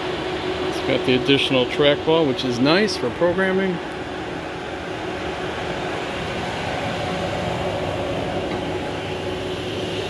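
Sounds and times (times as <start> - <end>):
machine humming and rushing: 0.0 - 10.0.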